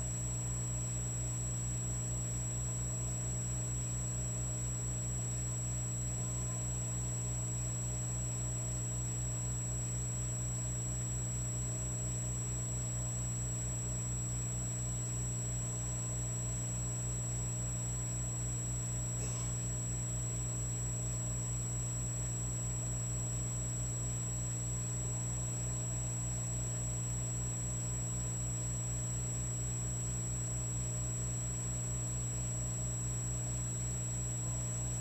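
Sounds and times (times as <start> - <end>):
electrical hum with low throb: 0.0 - 35.0.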